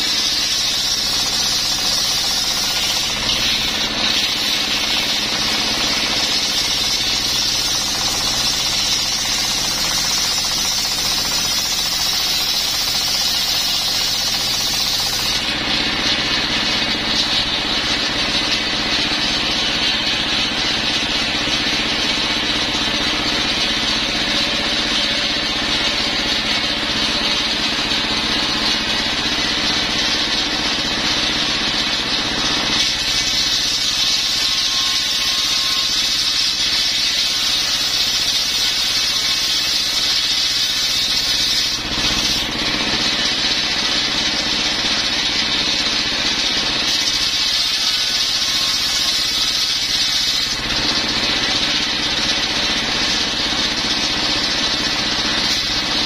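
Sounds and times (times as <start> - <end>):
circular saw blade whining: 0.0 - 56.0.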